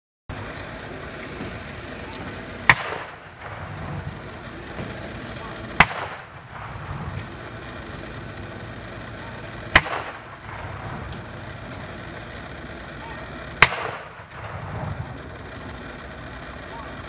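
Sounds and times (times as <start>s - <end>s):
rifle volleys with echo: 0.3s - 17.0s.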